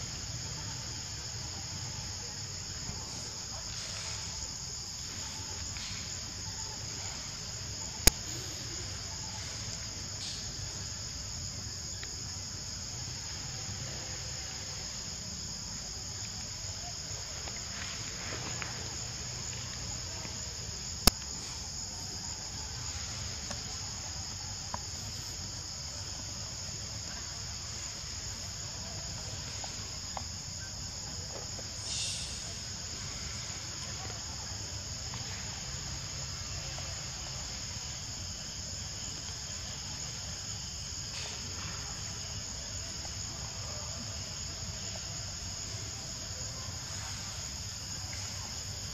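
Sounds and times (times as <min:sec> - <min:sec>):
chorus of forest insects: 0:00.0 - 0:48.9.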